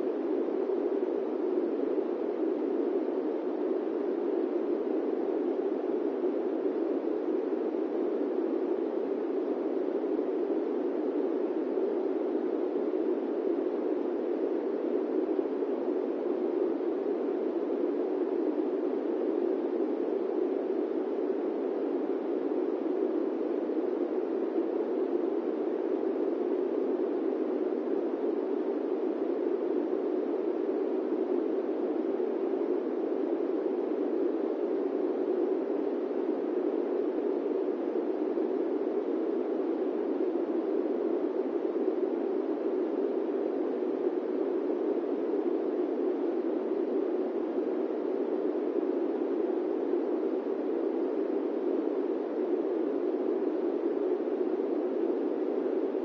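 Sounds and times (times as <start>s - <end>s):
airplane cabin white noise: 0.0s - 56.0s.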